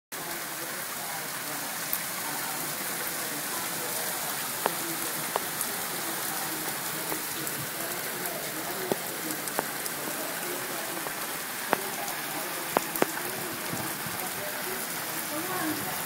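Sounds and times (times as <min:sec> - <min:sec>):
raindrops striking close by: 0:00.1 - 0:16.0
heavy rain hissing: 0:00.2 - 0:16.0.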